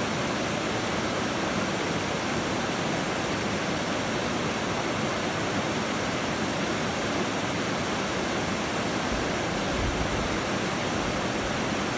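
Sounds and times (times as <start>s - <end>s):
flowing river water: 0.0s - 11.9s.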